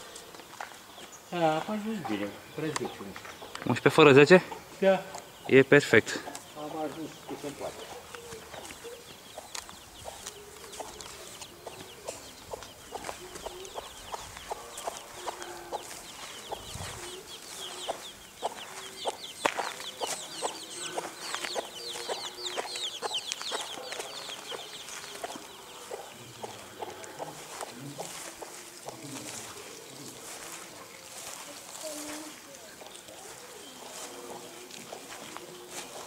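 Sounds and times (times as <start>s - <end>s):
chicks peeping: 0.0s - 36.0s
hen clucking: 1.7s - 36.0s.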